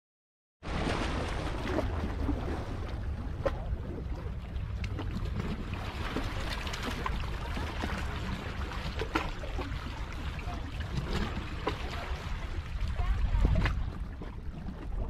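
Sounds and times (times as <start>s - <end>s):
water lapping against rock: 0.6s - 15.0s
wind on microphone: 1.5s - 15.0s.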